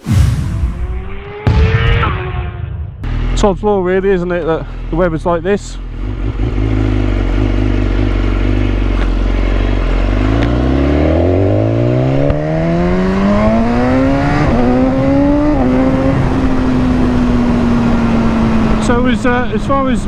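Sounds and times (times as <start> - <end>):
vehicle engine accelerating: 0.0 - 20.0.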